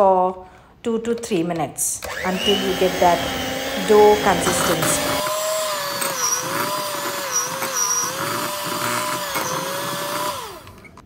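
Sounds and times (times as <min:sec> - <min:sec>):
electric hand mixer whine: 0:02.0 - 0:11.0.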